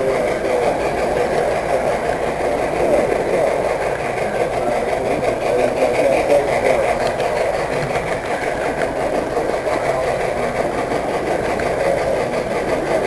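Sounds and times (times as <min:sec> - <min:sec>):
model train motor and wheel rumble: 0:00.0 - 0:13.0.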